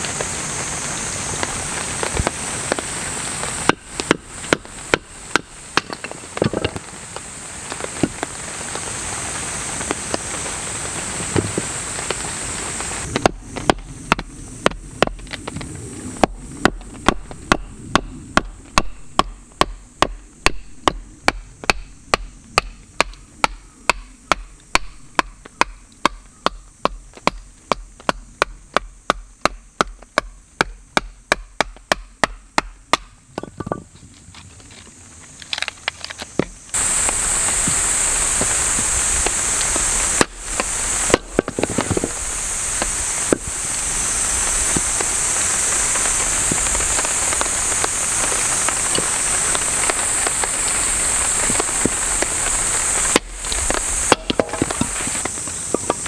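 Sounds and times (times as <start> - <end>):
rain hissing: 0.0 - 26.0, 34.0 - 56.0.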